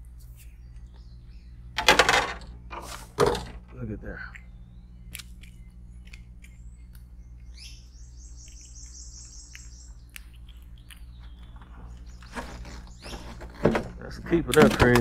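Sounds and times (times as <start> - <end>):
steady low hum: 0.0 - 15.0
bird singing: 0.2 - 2.0, 3.6 - 15.0.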